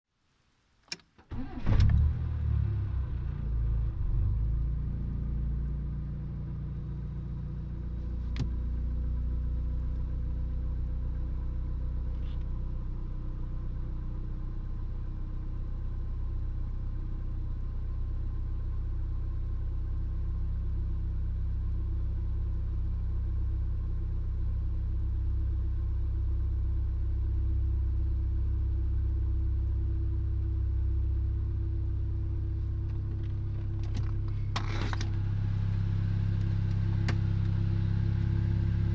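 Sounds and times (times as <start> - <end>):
car engine idling: 2.6 - 38.9.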